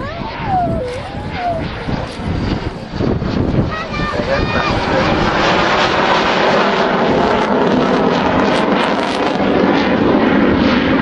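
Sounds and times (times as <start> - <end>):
jet engine flying past: 0.0 - 11.0.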